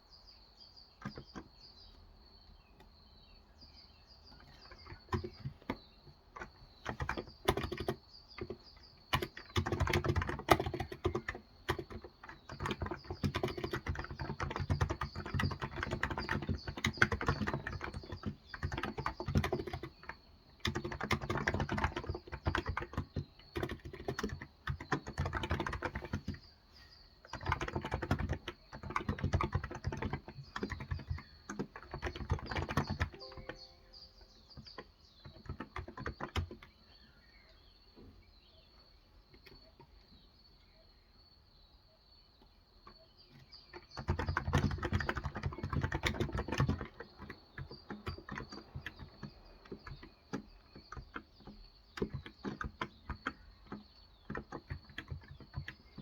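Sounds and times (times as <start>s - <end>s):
typing on a keyboard: 1.0s - 1.6s, 4.3s - 26.6s, 27.2s - 37.1s, 42.8s - 56.0s.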